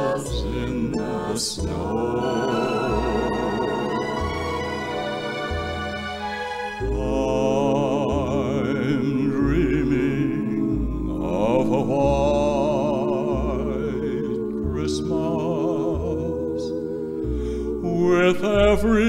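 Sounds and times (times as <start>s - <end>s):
bass notes: 0.0s - 19.0s
vibrato lead melody: 0.0s - 19.0s.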